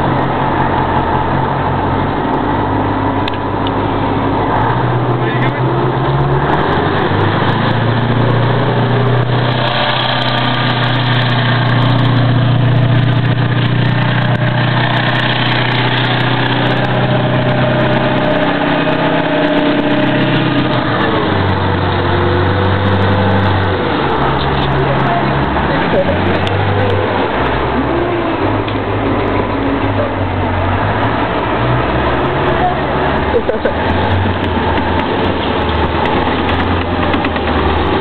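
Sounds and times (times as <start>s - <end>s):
armoured vehicle engine droning: 0.0s - 38.0s.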